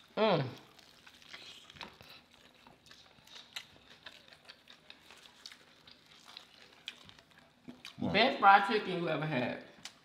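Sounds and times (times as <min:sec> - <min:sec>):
crunching of crispy coating: 0:00.0 - 0:08.0
biting and chewing chicken: 0:00.0 - 0:08.2.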